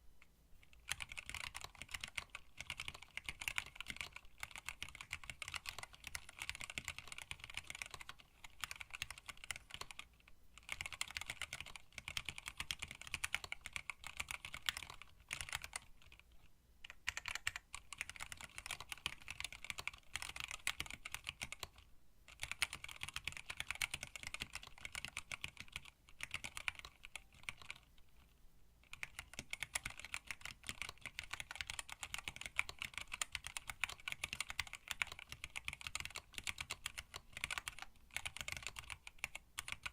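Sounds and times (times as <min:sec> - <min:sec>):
mechanical keyboard typing: 0:00.6 - 0:39.9.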